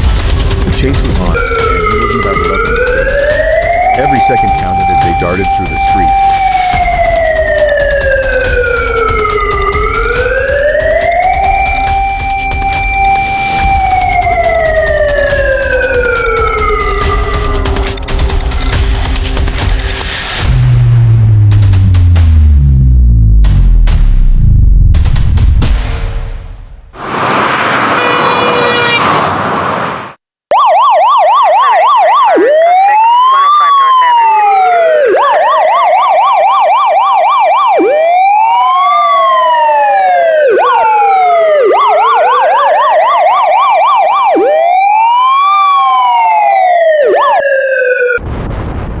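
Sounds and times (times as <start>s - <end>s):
police siren yelp and wail: 0.2s - 20.4s, 27.9s - 29.3s, 30.5s - 48.2s.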